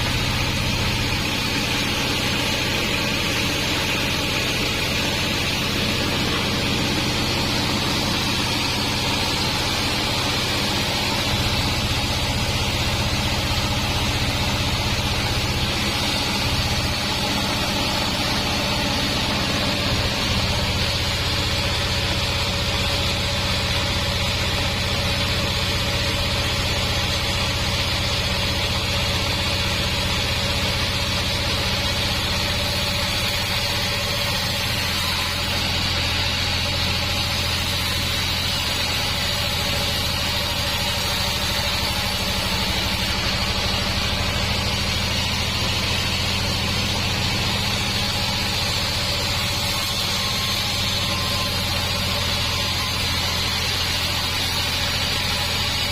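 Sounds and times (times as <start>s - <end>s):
band saw machinery humming: 0.0s - 55.9s.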